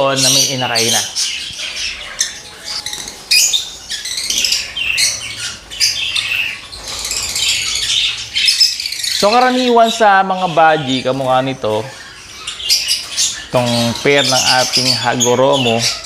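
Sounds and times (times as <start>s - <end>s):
budgies squawking and chattering: 0.0s - 16.0s.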